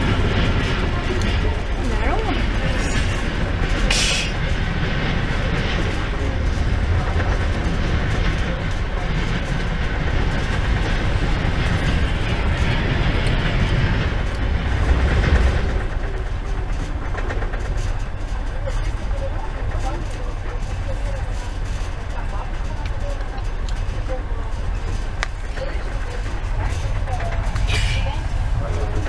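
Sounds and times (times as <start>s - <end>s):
train car rumbling: 0.0s - 29.0s.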